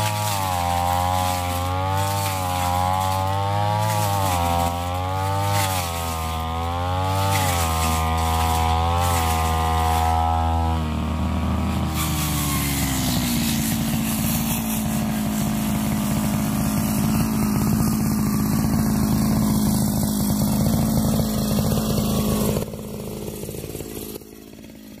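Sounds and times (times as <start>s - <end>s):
brush cutter cutting grass: 0.0s - 25.0s.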